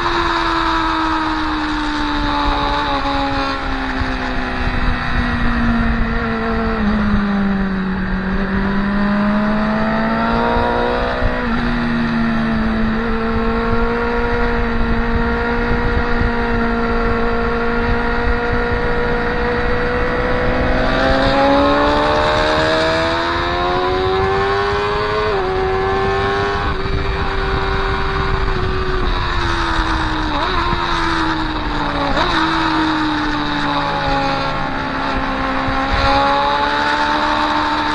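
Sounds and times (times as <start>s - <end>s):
motorcycle engine revving: 0.0s - 37.9s
wind rushing: 2.1s - 37.9s.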